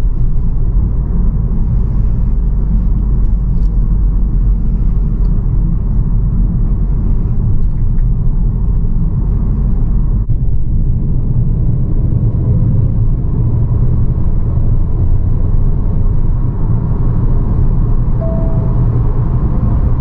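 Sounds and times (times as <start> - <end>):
car cabin engine and road rumble: 0.0 - 20.0.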